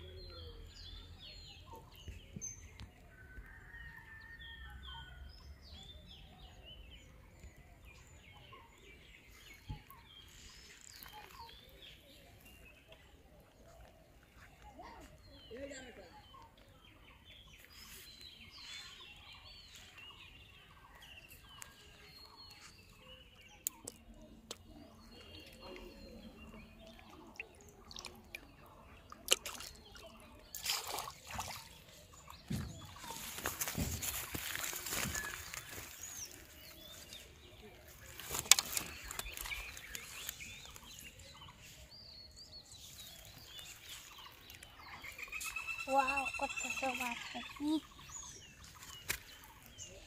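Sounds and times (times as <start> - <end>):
birds chirping and calling: 4.8 - 50.0.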